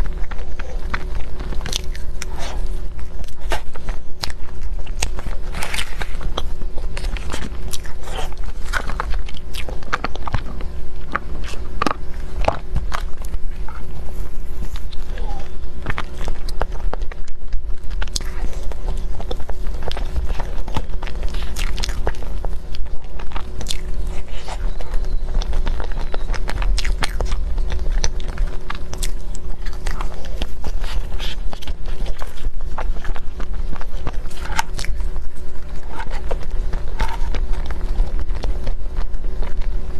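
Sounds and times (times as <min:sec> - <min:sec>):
low hum: 0:00.0 - 0:39.9
person biting and chewing: 0:00.0 - 0:39.9.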